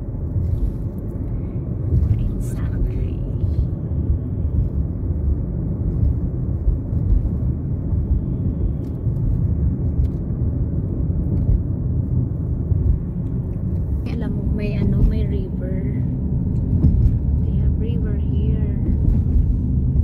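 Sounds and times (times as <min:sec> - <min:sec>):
car tyres and engine rumble: 0:00.0 - 0:20.0.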